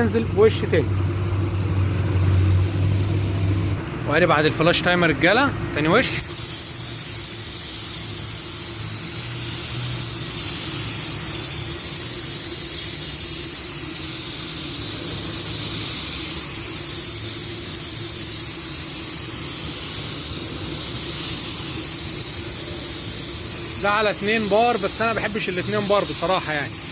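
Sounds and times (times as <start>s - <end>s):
paint spray gun hissing: 2.2s - 3.8s, 6.0s - 26.9s.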